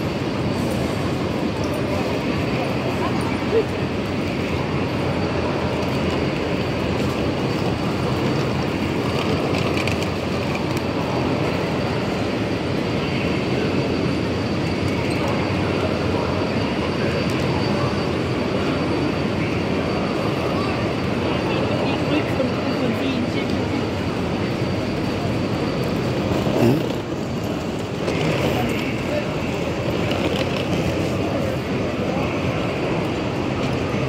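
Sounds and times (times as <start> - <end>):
busy station hubbub: 0.0 - 34.0.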